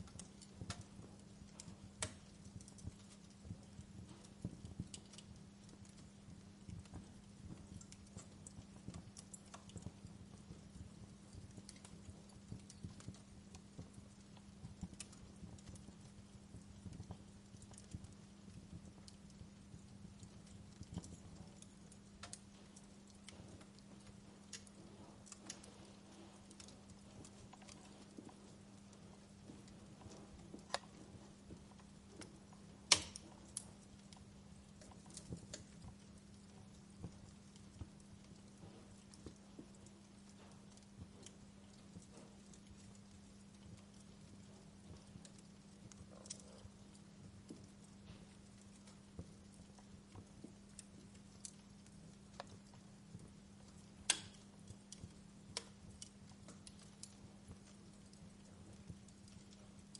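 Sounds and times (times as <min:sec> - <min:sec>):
soft steady hum: 0:00.0 - 0:59.9
wood fire crackling: 0:00.0 - 0:59.9.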